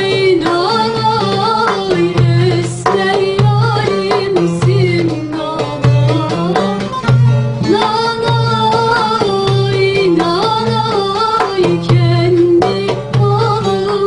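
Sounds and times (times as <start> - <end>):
person singing: 0.0 - 7.0, 7.6 - 14.0
folk song on plucked lute: 0.0 - 14.0
hand drum rhythm: 0.0 - 14.0.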